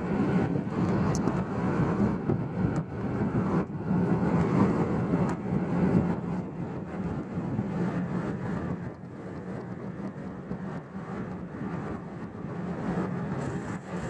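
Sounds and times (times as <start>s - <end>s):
car engine running: 0.0s - 14.0s
road noise: 0.0s - 14.0s.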